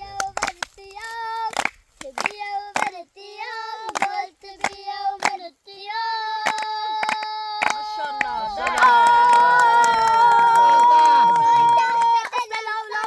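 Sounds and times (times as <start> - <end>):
hand claps: 0.1 - 3.0, 3.8 - 5.4, 6.4 - 13.0.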